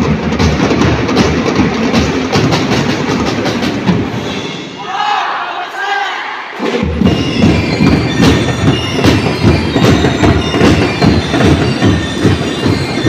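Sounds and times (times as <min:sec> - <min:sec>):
snare and bass drums playing: 0:00.0 - 0:04.4, 0:06.6 - 0:13.0.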